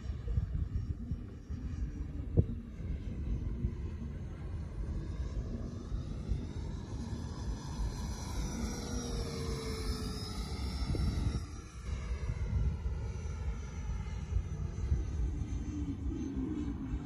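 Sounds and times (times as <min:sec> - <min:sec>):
electric ducted fan whine: 0:00.0 - 0:17.0
steady low rumble: 0:00.0 - 0:17.0.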